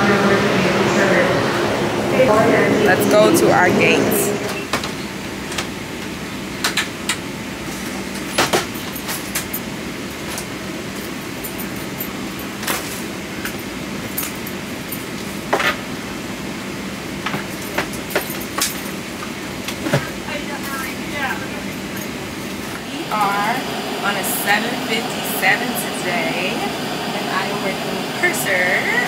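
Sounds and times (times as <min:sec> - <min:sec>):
cabin air system hum: 0:00.0 - 0:29.0.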